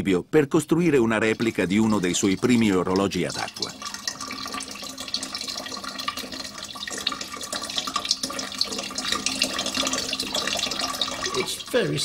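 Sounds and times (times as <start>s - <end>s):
water running and splashing: 1.0s - 12.0s.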